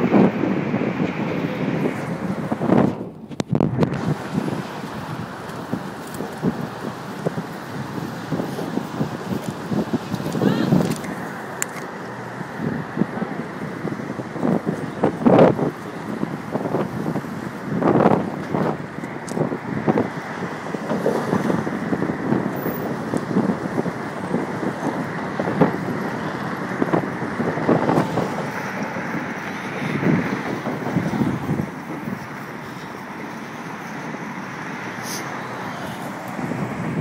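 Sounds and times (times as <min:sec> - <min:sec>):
road and traffic noise: 0:00.0 - 0:37.0
wind buffeting microphone: 0:00.0 - 0:37.0.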